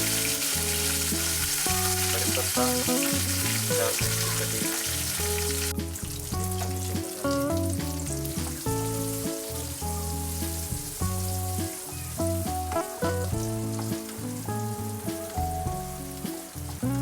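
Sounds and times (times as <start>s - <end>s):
instrumental background music: 0.0s - 17.0s
spices sizzling in hot oil: 0.0s - 17.0s.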